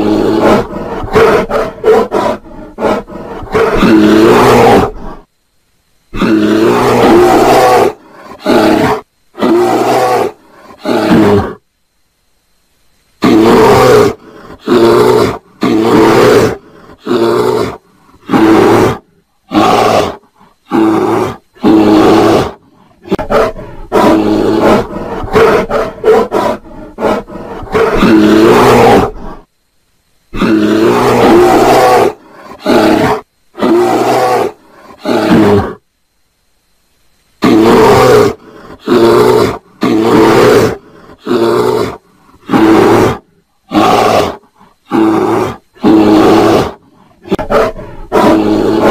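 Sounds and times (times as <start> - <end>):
bears roaring: 0.0 - 5.3, 6.1 - 11.6, 13.2 - 29.5, 30.3 - 35.8, 37.4 - 48.9.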